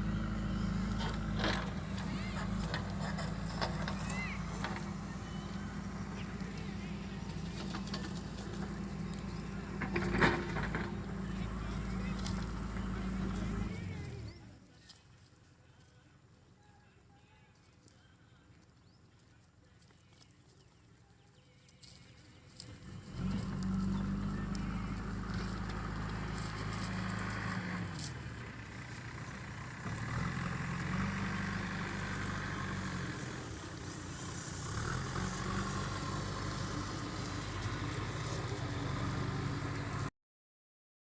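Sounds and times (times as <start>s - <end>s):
vehicle engine running: 0.0s - 40.1s.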